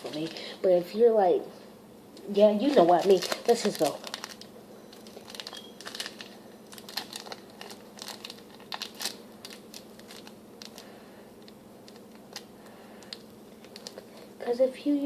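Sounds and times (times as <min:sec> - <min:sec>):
plastic packet crinkling: 0:00.0 - 0:00.4, 0:02.6 - 0:14.3
faint steady hum: 0:00.0 - 0:15.0.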